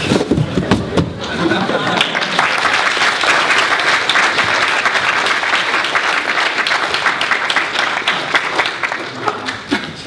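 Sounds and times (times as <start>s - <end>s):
audience applauding: 1.5s - 9.8s.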